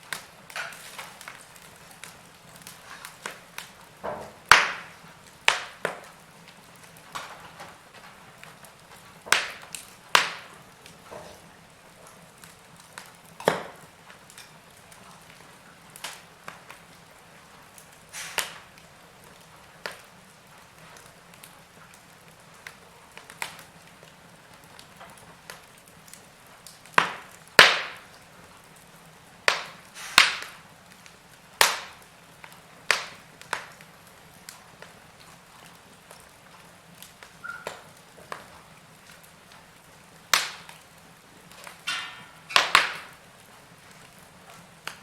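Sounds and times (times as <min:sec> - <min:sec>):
faint steady background noise: 0:00.0 - 0:45.0
wood fire crackling: 0:00.0 - 0:45.0.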